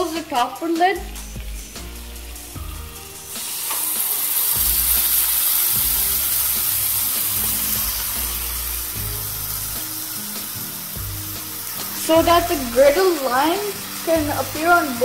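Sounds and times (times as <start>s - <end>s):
chicken sizzling on griddle: 0.0s - 15.0s.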